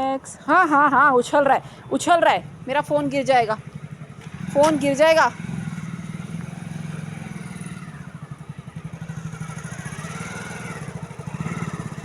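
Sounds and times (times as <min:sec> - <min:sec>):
motorcycle engine idling: 0:01.6 - 0:12.0.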